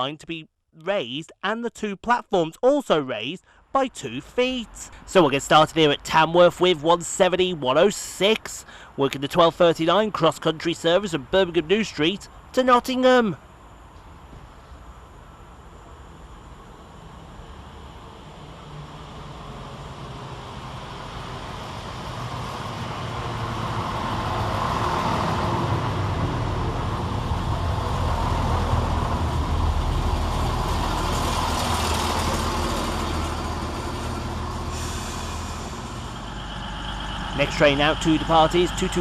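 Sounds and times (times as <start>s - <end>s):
train diesel engines droning: 3.4s - 39.0s.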